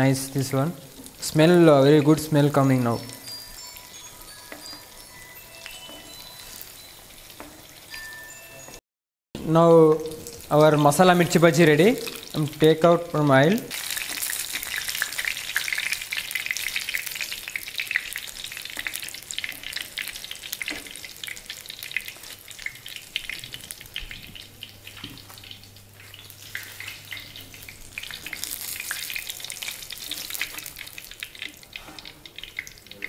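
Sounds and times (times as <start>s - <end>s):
hot oil sizzling and crackling: 0.0s - 8.8s, 9.4s - 33.0s.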